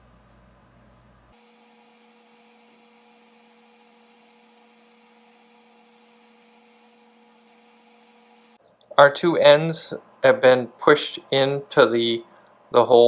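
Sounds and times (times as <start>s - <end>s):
faint electrical hum: 0.0s - 1.4s, 3.8s - 13.0s.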